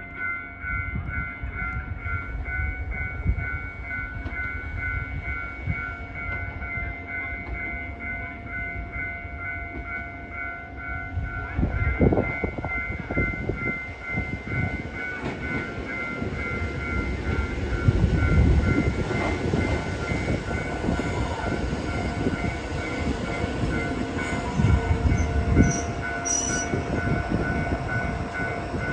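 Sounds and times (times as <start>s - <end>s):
railcar rumbling on rails: 0.0s - 28.9s.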